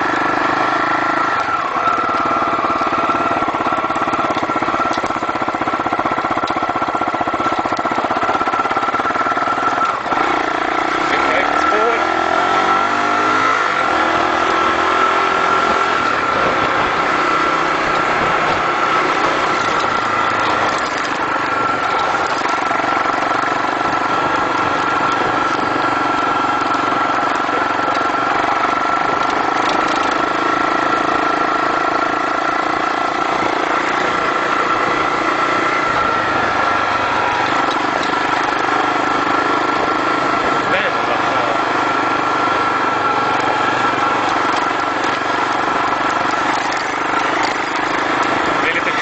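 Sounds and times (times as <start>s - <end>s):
motorcycle engine running: 0.0s - 49.0s
wind and road noise: 0.0s - 49.0s.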